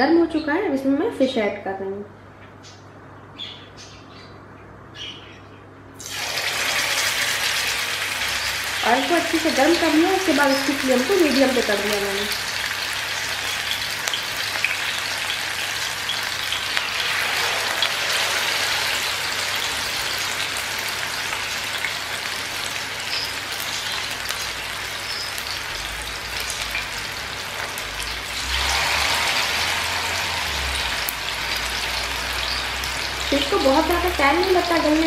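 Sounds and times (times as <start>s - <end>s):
fish sizzling in hot oil: 6.0s - 35.0s.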